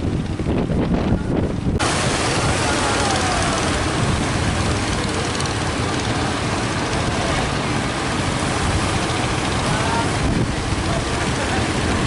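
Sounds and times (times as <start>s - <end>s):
heavy surf roaring: 0.0s - 12.0s
wind buffeting microphone: 0.0s - 12.0s.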